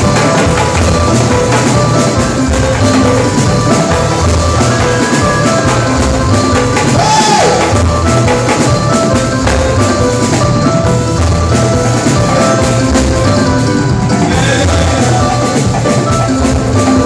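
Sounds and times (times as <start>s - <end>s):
drum kit beat: 0.0s - 17.0s
held keyboard notes: 0.0s - 17.0s.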